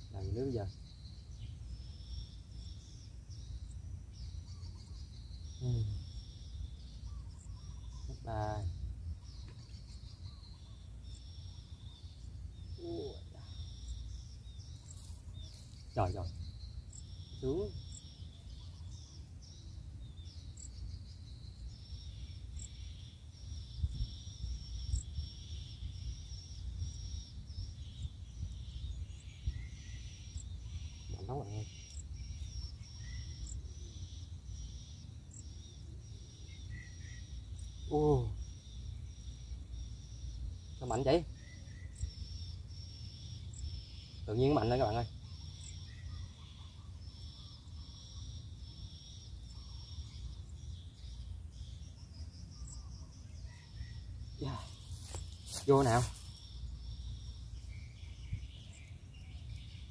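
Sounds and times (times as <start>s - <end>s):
faint bird chirps: 0.0s - 59.9s
insects chirring: 0.0s - 59.9s.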